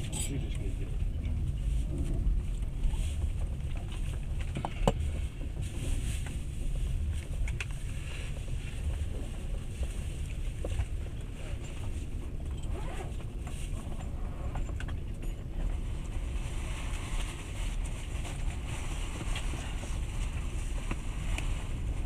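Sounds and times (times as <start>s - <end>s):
moving train rumble: 0.0s - 22.0s.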